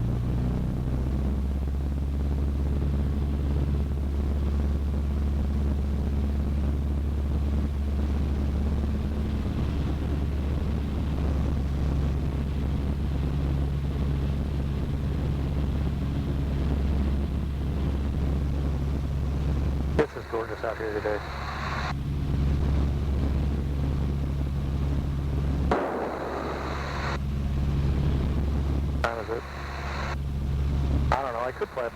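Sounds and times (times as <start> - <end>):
airplane engine droning: 0.0 - 31.9.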